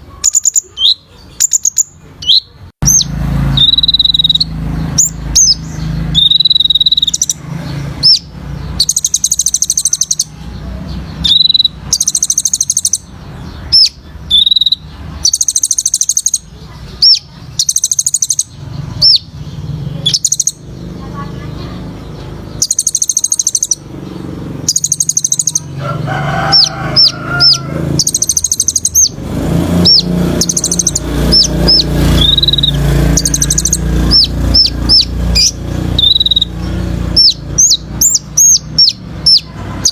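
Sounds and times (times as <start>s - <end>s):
bird singing buzzy trills: 0.0s - 39.9s
sharp whistled bird chips: 0.1s - 7.4s, 8.0s - 10.3s, 11.2s - 19.3s, 20.0s - 20.8s, 22.6s - 23.9s, 24.7s - 25.7s, 28.0s - 39.9s.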